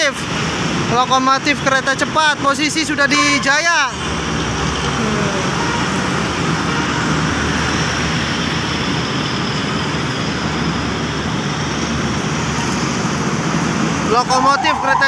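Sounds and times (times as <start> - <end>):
tyres on road: 0.0 - 15.0
vehicle engines: 0.0 - 15.0.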